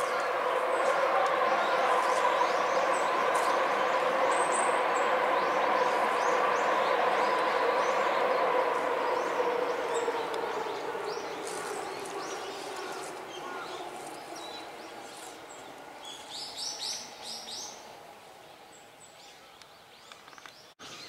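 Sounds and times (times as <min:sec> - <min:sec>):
electric train running past: 0:00.0 - 0:18.8
birds chirping: 0:00.0 - 0:21.0.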